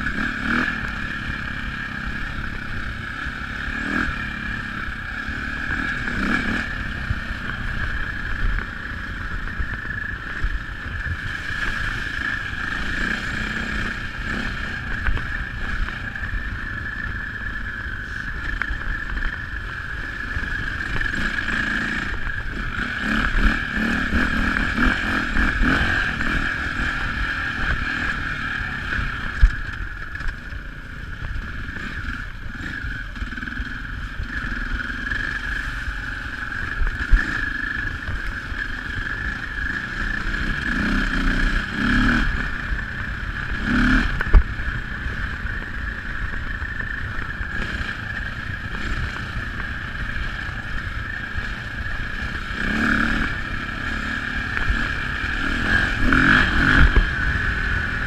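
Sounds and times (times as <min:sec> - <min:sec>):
dirt bike engine running: 0:00.0 - 0:58.0
wind: 0:00.0 - 0:58.0.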